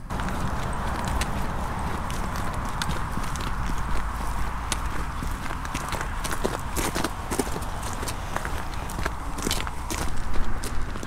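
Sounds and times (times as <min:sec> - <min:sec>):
footsteps crunching on stones: 0:00.0 - 0:11.0.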